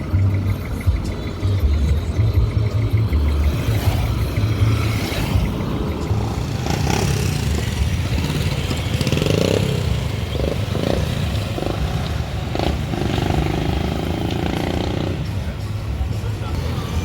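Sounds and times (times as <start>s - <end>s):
motorcycle engine running: 0.0s - 17.0s
pitched street noise: 0.0s - 17.0s
street traffic: 0.0s - 17.0s.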